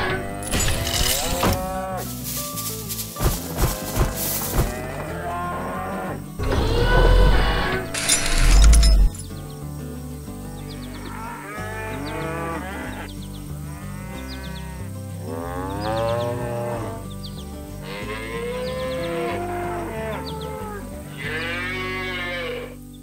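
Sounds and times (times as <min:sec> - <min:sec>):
cows mooing: 0:00.0 - 0:02.2, 0:03.8 - 0:08.9, 0:10.8 - 0:17.1, 0:17.8 - 0:22.8
background music: 0:00.0 - 0:23.0.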